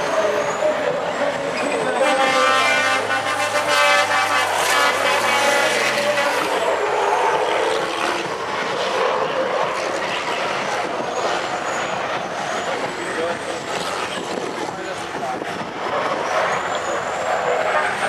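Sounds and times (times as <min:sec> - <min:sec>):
diesel truck engine revving: 0:00.0 - 0:18.0.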